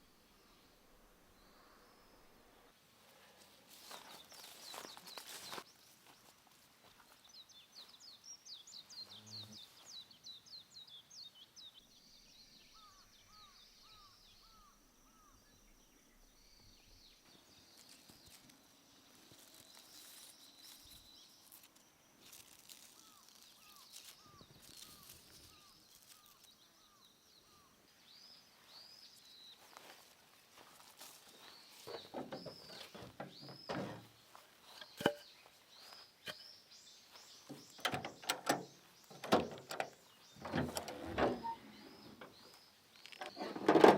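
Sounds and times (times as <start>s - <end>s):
faint birdsong: 0.0s - 43.9s.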